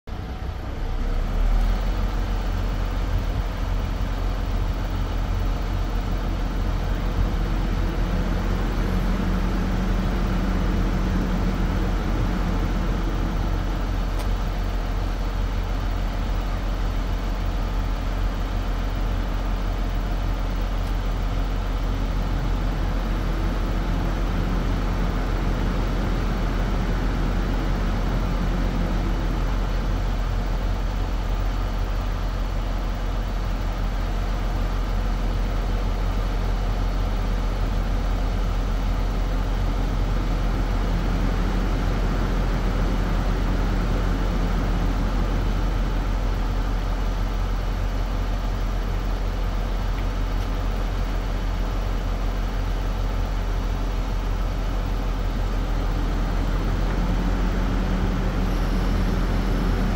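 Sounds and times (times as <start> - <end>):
diesel truck engine idling: 0.1 - 59.9.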